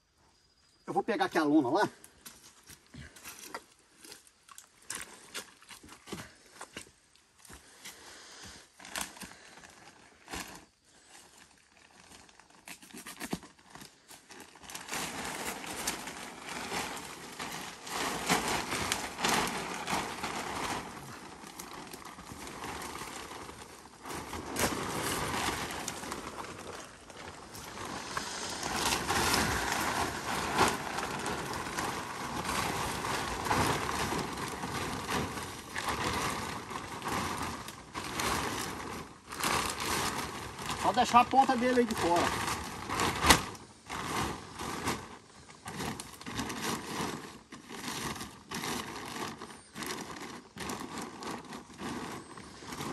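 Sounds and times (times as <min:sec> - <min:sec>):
plastic tarp rustling and crinkling: 0:01.0 - 0:52.9.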